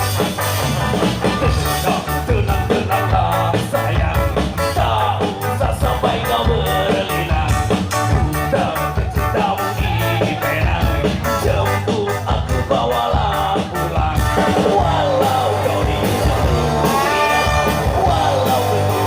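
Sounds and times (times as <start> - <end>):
drum kit beat: 0.0 - 19.0
ska band playing live: 0.0 - 19.0.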